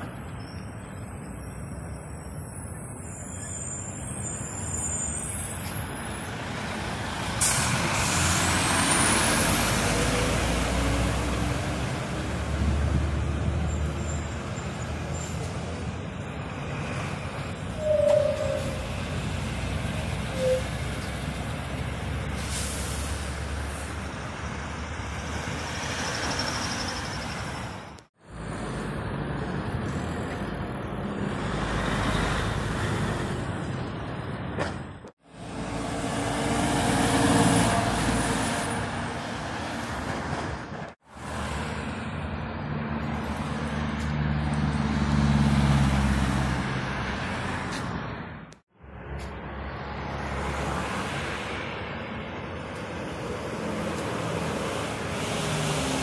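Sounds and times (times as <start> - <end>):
lorry diesel engines running: 0.0 - 56.0.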